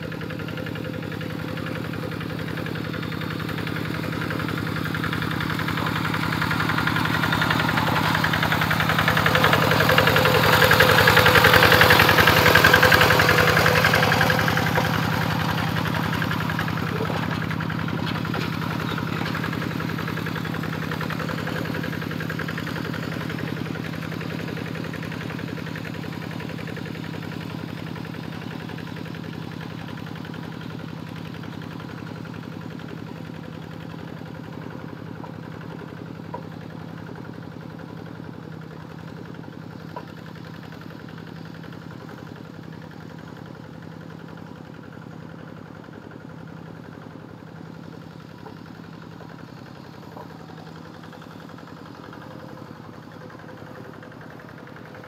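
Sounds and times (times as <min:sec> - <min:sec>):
hand tractor engine running: 0:00.2 - 0:38.0, 0:38.8 - 0:55.0.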